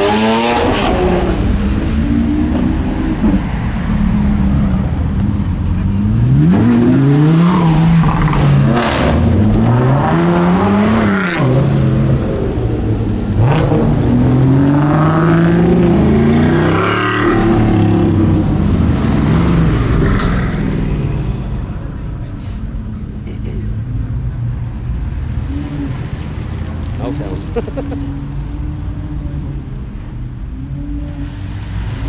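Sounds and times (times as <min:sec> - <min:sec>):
supercar engines accelerating: 0:00.0 - 0:32.0.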